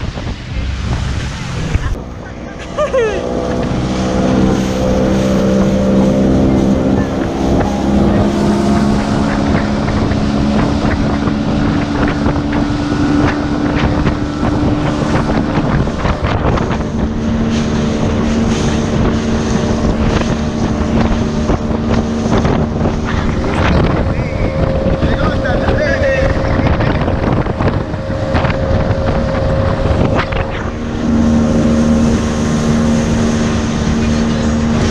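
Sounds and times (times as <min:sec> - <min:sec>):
motorboat engine running: 0:00.0 - 0:34.9
wind buffeting microphone: 0:00.0 - 0:34.9
water knocking against hull: 0:03.6 - 0:34.9.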